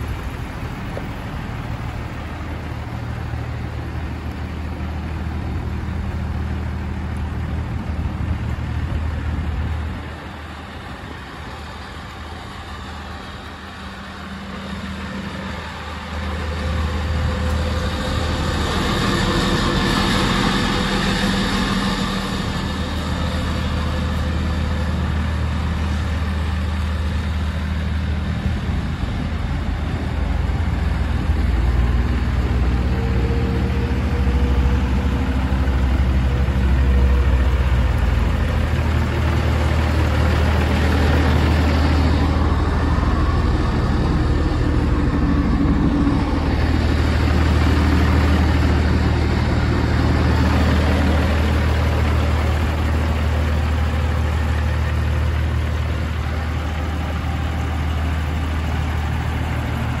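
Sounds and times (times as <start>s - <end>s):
diesel engine idling: 0.0s - 60.0s.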